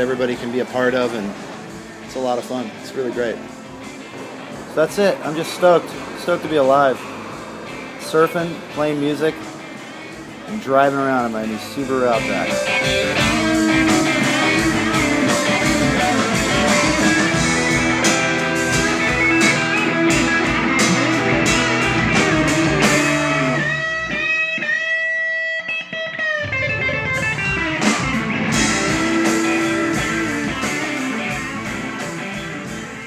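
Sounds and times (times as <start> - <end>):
drums: 0.0 - 24.6, 26.4 - 33.0
electric guitar: 0.0 - 33.0.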